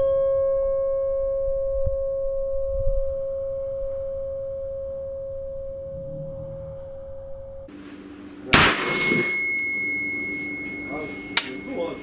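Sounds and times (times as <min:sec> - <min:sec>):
metal ringing tone: 0:00.0 - 0:07.7, 0:08.6 - 0:12.0.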